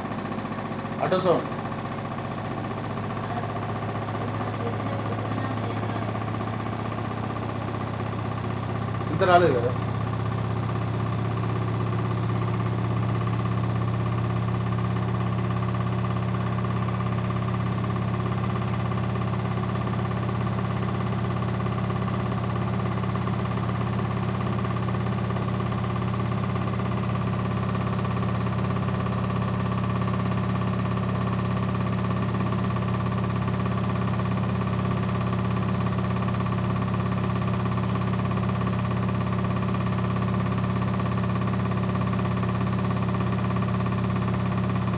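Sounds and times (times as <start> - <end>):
washing machine humming: 0.0 - 44.9.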